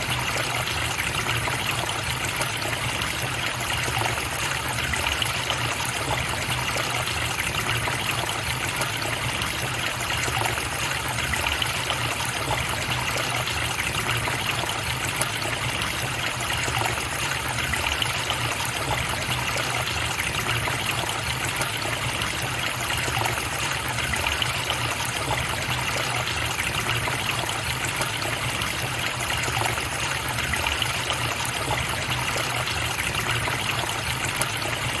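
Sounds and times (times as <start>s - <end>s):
stream water running: 0.0s - 35.0s.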